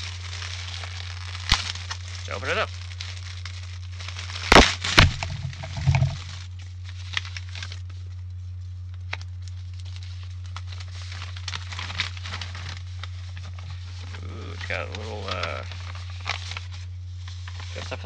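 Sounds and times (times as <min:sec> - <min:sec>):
packaging rustling: 0:00.0 - 0:08.0, 0:09.0 - 0:17.9
steady low hum: 0:00.0 - 0:18.0
light crinkles and clicks: 0:00.1 - 0:18.0.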